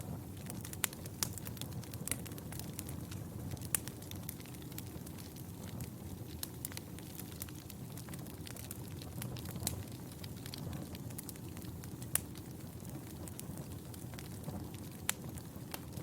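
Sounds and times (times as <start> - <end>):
fire crackles and pops: 0.0 - 16.0
fire flames rumbling: 0.0 - 16.0.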